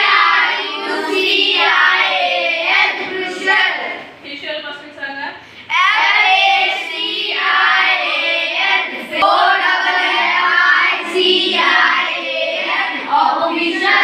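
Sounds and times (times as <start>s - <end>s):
children reciting in chorus: 0.0s - 4.2s, 5.6s - 14.0s.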